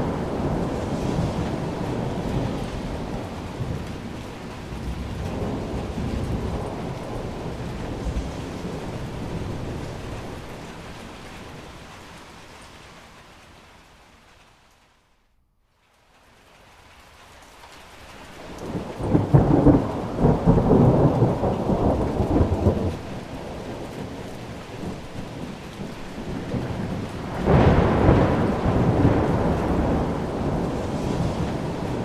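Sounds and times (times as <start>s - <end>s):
rolling thunder: 0.0s - 12.5s, 18.4s - 32.0s
steady rain: 0.0s - 32.0s.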